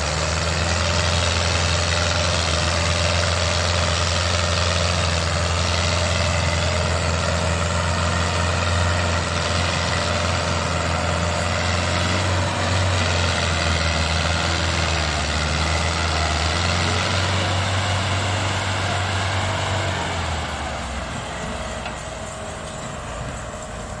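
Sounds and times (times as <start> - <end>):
tractor diesel engines droning: 0.0 - 24.0.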